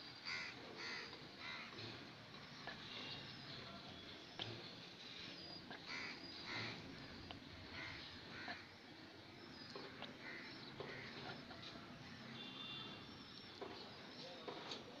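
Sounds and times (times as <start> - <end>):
bird calls: 0.2 - 14.9.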